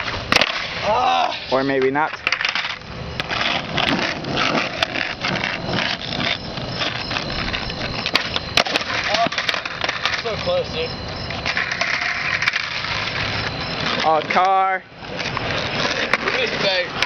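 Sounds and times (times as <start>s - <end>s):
skateboard wheels rolling on asphalt: 0.0s - 17.0s
skateboard clacking on pavement: 1.6s - 17.0s.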